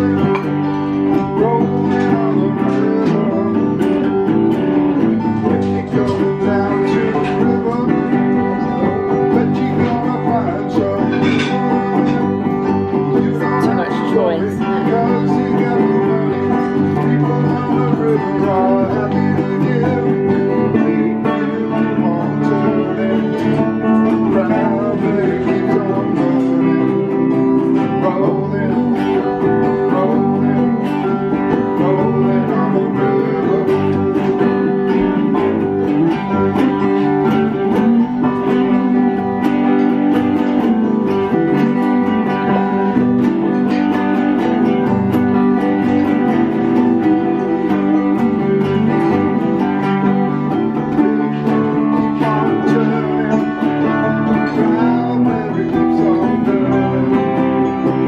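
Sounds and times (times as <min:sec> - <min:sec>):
banjo playing: 0:00.0 - 0:58.0
electric guitars playing: 0:00.0 - 0:58.0.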